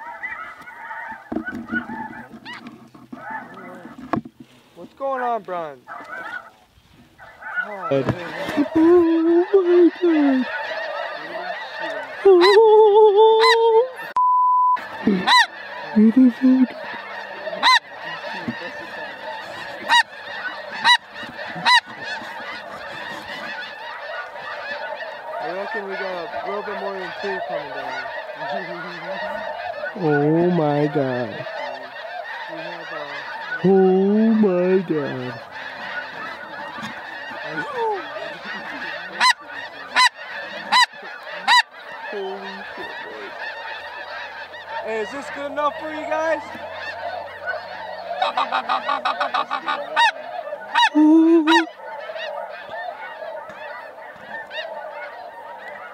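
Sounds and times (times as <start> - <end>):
flock of geese honking: 0.0 - 14.2, 14.8 - 55.9.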